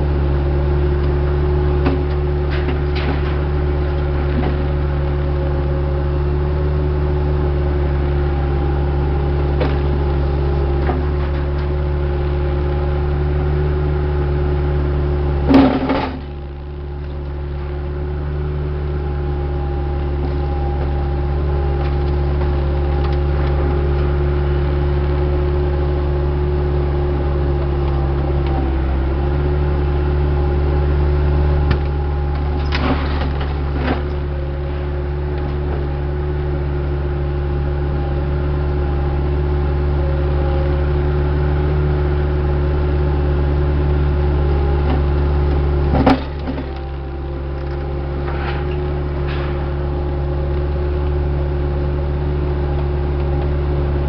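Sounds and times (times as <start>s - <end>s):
diesel engine working: 0.0s - 54.0s.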